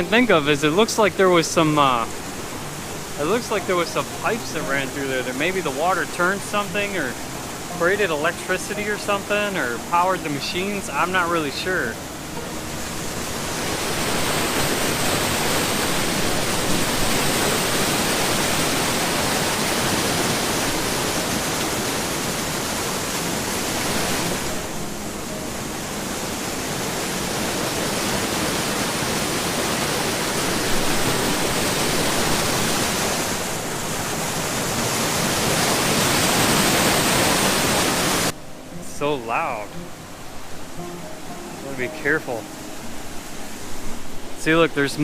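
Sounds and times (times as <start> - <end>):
creek water rushing: 0.0 - 45.0.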